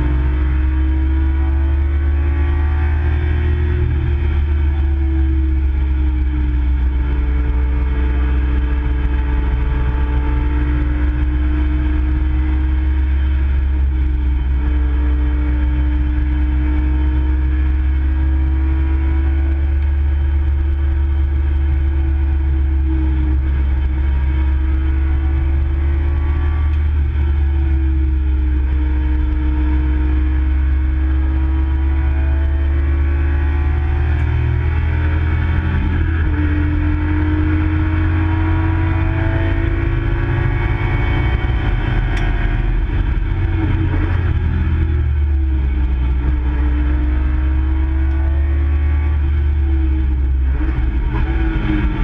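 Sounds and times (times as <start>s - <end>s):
car engine running hard: 0.0s - 52.0s
heavy low cabin rumble: 3.2s - 31.9s, 33.7s - 52.0s.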